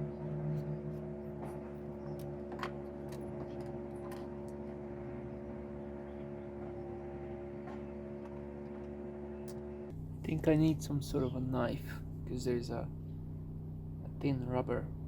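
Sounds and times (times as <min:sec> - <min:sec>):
steady multi-pitch hum: 0:00.0 - 0:15.0.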